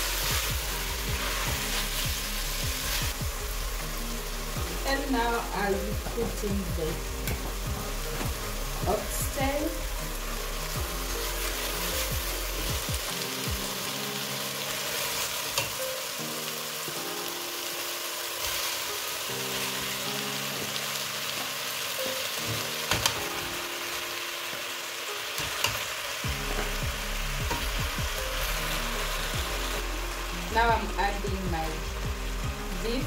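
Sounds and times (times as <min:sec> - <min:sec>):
meat sizzling in a pot: 0:00.0 - 0:33.0.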